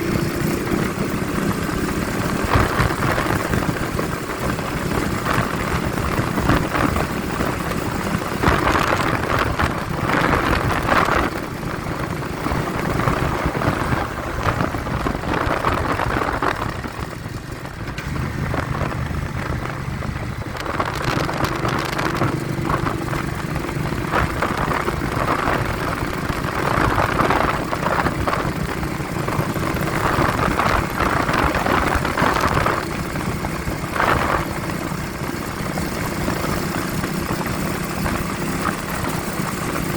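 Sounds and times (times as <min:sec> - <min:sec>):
vehicle engine running: 0:00.0 - 0:39.9
wind buffeting the microphone: 0:00.0 - 0:39.9.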